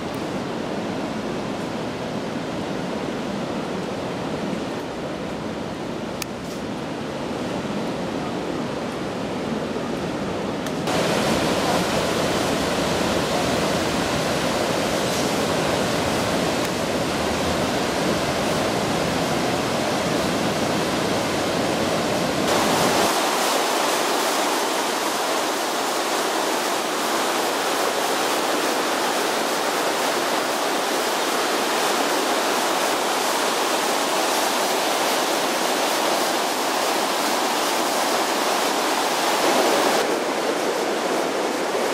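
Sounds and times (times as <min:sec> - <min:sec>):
water rushing over a weir: 0:00.0 - 0:41.9.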